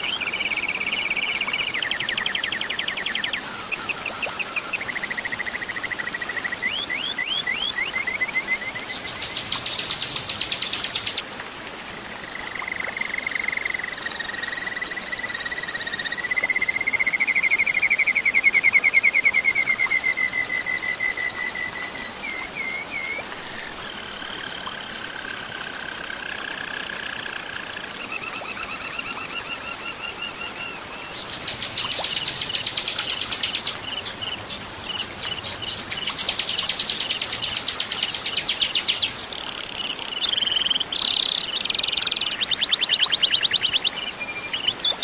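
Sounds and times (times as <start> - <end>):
songbirds trilling and chirping: 0.0 - 11.2, 12.5 - 45.0.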